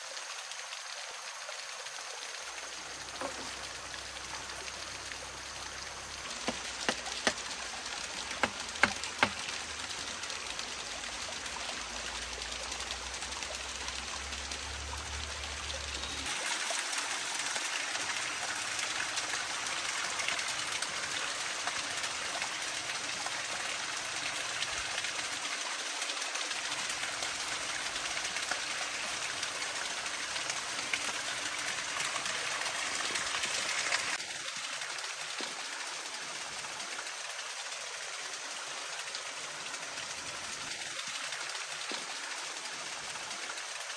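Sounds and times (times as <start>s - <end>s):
running water rushing: 0.0s - 43.9s.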